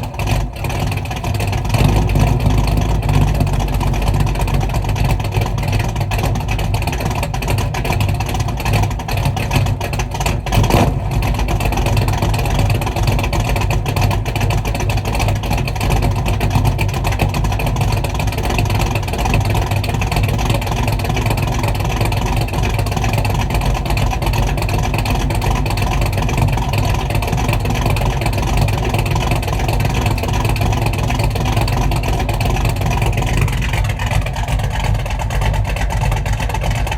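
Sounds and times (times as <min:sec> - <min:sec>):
car engine running deep: 0:00.0 - 0:36.9.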